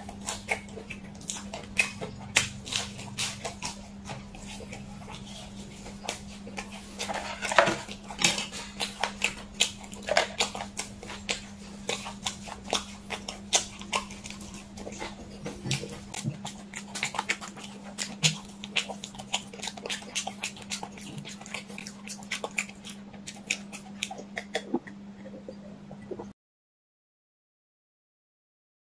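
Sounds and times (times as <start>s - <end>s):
chewing and mouth smacking: 0.0s - 26.3s
steady low hum: 0.0s - 26.3s.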